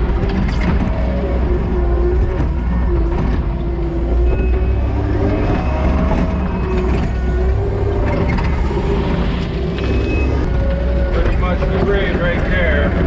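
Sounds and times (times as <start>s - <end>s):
wavering whine: 0.0s - 12.8s
diesel engine drone: 0.0s - 13.0s.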